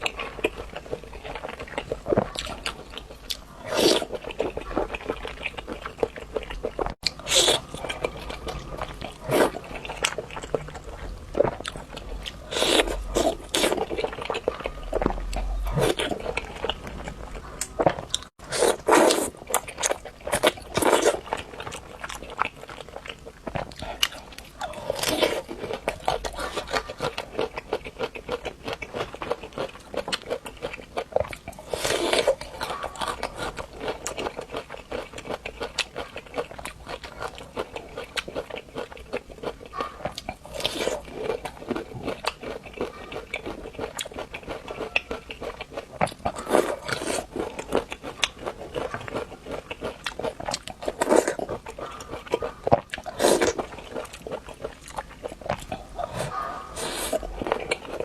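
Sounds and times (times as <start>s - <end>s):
person biting and chewing food: 0.0s - 58.0s.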